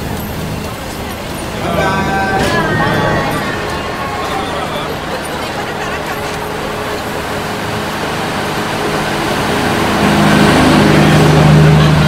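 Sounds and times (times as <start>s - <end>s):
diesel locomotive engine hum: 0.0s - 12.0s
passenger train rolling past: 0.0s - 12.0s.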